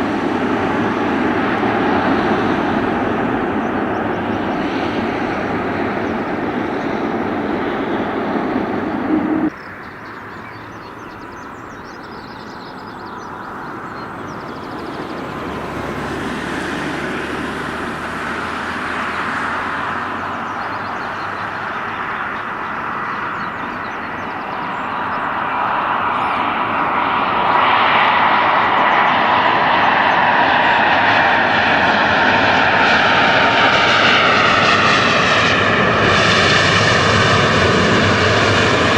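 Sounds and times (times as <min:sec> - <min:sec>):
earlier aircraft noise: 0:00.0 - 0:38.9
jet airliner engines passing: 0:00.0 - 0:38.9.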